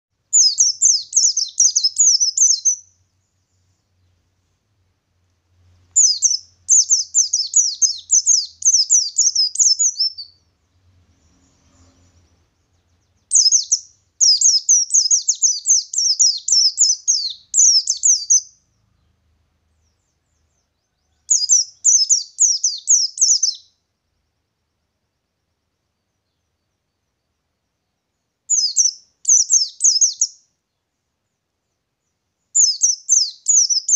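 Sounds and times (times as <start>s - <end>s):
bird singing rolling song: 0.1s - 33.9s.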